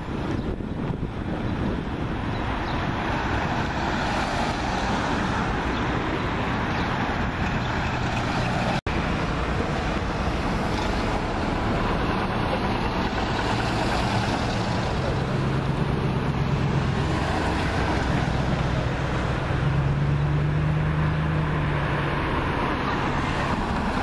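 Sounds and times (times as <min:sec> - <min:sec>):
road traffic rush: 0:00.0 - 0:24.0.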